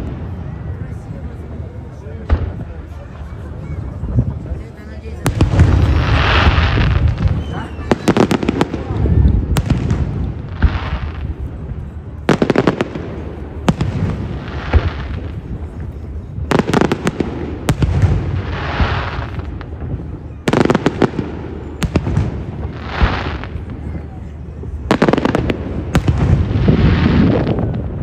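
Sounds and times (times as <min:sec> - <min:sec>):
firework bangs: 0:05.2 - 0:28.0.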